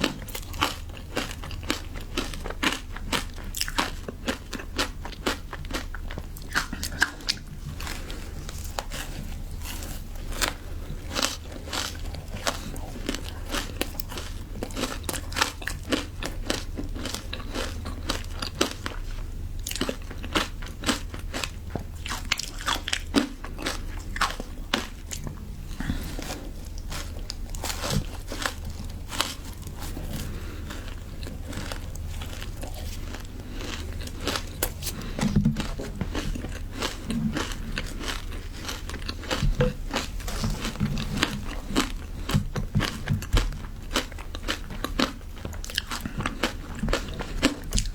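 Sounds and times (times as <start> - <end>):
ice being bitten and chewed: 0.0 - 47.9.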